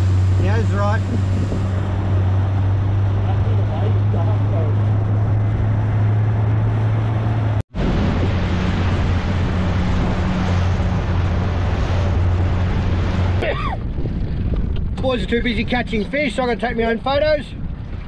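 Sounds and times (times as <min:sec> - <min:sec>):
outboard motor running: 0:00.0 - 0:18.0
water rushing: 0:00.0 - 0:18.0
wind: 0:00.0 - 0:18.0.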